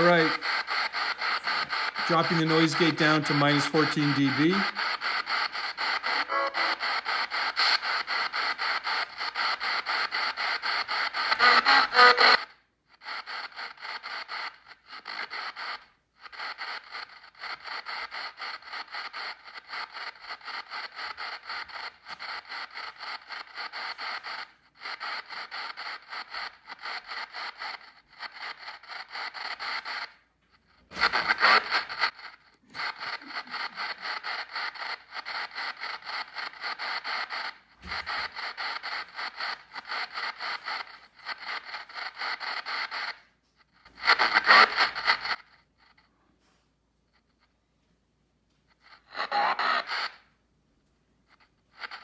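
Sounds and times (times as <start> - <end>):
choppy radio static sweeping: 0.0 - 30.2, 30.8 - 43.2, 43.8 - 45.5, 48.9 - 50.2, 51.8 - 52.0.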